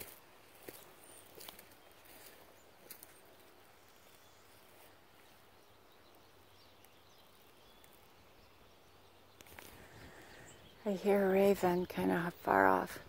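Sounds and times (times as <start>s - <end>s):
faint distant bird chirps: 0.0s - 13.0s.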